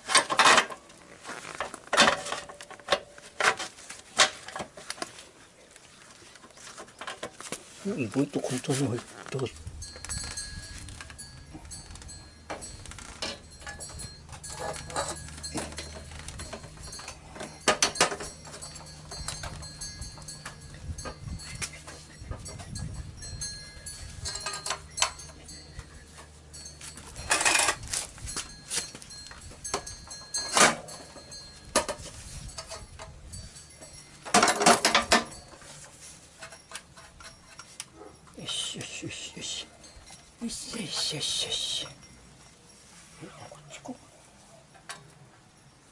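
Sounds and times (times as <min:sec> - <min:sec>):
metal clinks and knocks: 0:00.0 - 0:05.1, 0:06.7 - 0:42.8.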